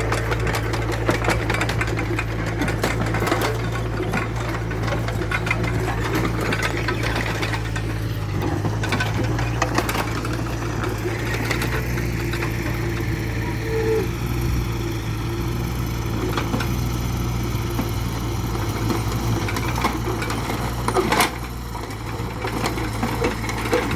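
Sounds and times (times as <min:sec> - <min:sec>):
diesel engine clattering: 0:00.0 - 0:23.9.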